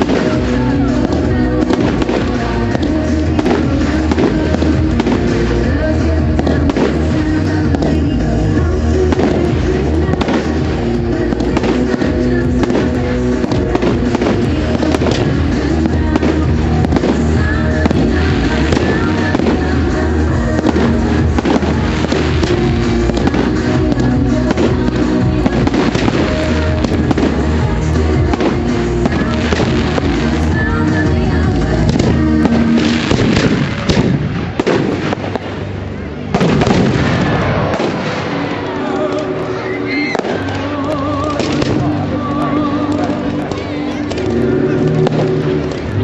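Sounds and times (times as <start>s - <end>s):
fireworks bangs and crackles: 0.0s - 46.0s
loud music over loudspeakers: 0.0s - 46.0s.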